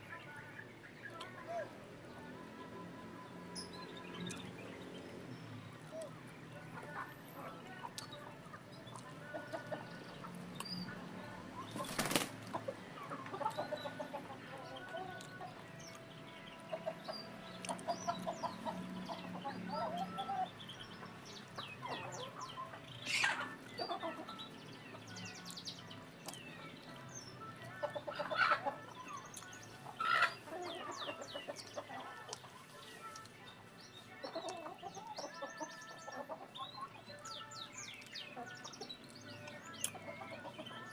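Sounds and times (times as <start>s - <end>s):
small birds chirping: 0.0s - 40.9s
chickens clucking: 0.2s - 40.9s.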